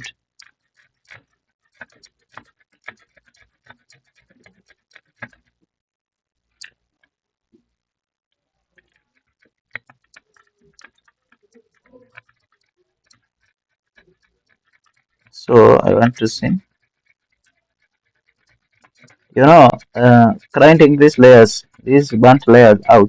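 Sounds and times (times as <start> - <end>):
hand tool scraping circuit board: 0.0 - 5.6, 8.6 - 23.0.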